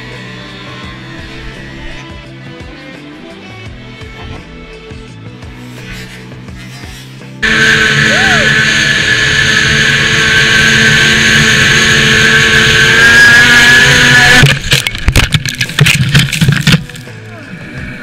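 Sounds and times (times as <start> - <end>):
snowmobile engine whining: 0.0 - 2.4, 5.8 - 18.0.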